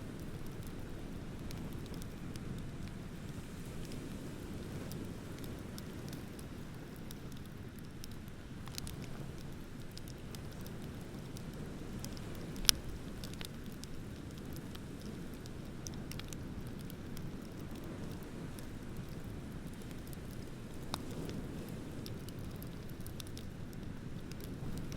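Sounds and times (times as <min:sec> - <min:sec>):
bonfire crackling: 0:00.0 - 0:24.9.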